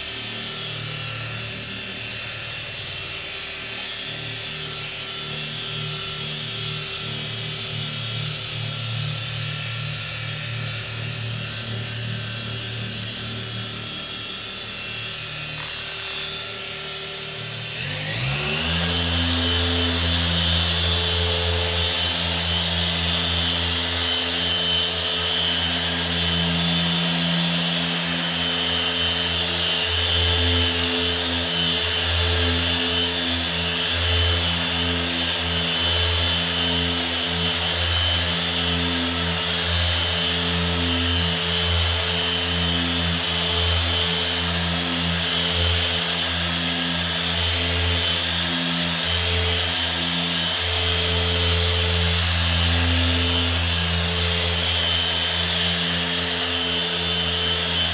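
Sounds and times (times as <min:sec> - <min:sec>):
electric polisher motor hum: 0:00.0 - 0:57.9.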